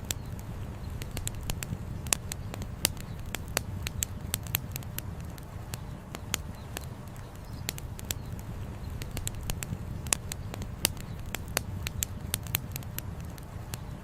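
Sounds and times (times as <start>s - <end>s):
campfire crackling: 0.0s - 14.0s
low steady rumble: 0.0s - 14.0s.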